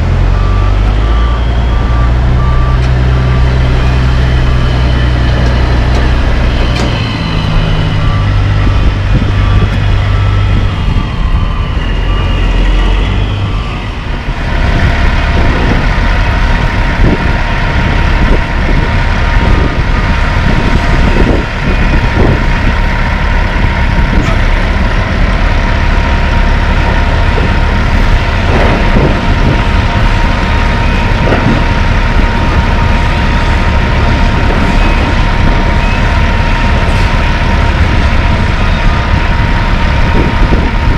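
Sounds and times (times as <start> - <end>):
dump truck idling: 0.0 - 40.9
excavator working with whine: 0.0 - 40.9.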